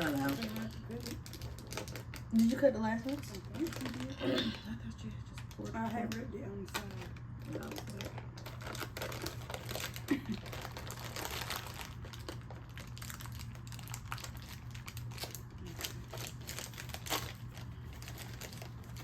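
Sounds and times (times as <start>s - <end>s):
plastic snack bag crinkling: 0.0s - 4.2s, 5.3s - 19.0s.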